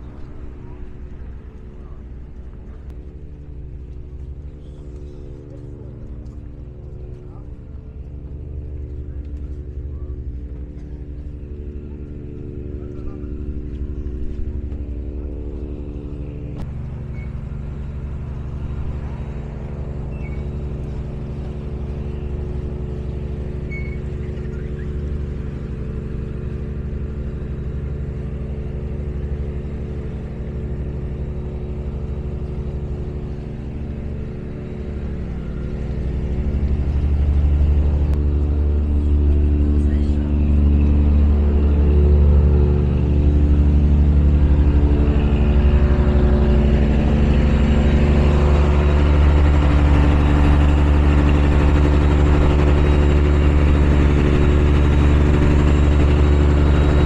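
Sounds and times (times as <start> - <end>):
boat diesel engine drone: 0.0 - 57.0.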